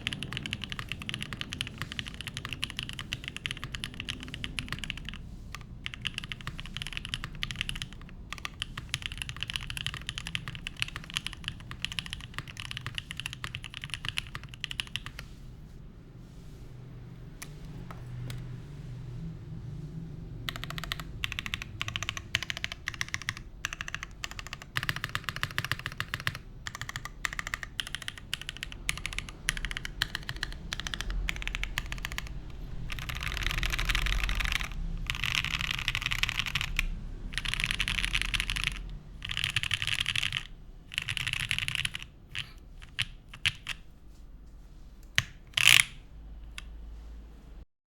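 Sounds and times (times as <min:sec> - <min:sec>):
mechanical keyboard typing: 0:00.0 - 0:15.3, 0:20.4 - 0:43.9, 0:45.0 - 0:46.7.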